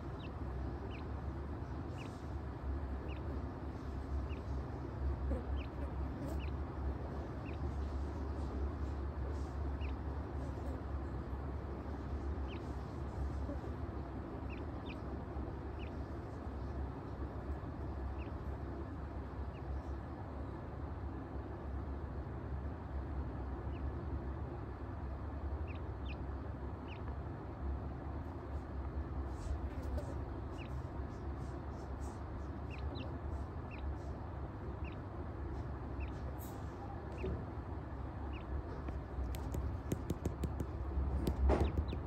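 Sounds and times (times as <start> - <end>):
chick peeping: 0.0 - 20.5, 25.5 - 27.2, 28.2 - 42.0
steady low hum: 0.0 - 42.0.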